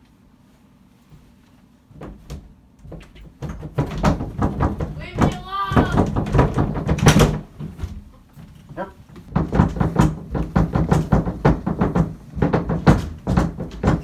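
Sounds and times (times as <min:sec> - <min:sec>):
closet doors rattling and bumping: 0:01.9 - 0:14.0
quick knocks and thumps: 0:01.9 - 0:14.0.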